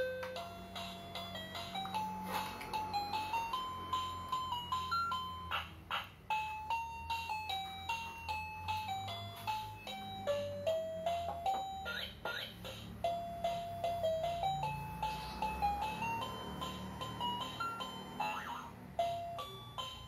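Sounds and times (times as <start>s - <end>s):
electronic chiming melody: 0.0s - 5.6s, 6.3s - 20.0s.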